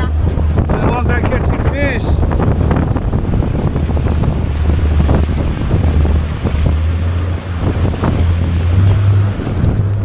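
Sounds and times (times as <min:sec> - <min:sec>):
boat engine rumble: 0:00.0 - 0:10.0
water rushing against hull: 0:00.0 - 0:10.0
wind buffeting microphone: 0:00.0 - 0:10.0.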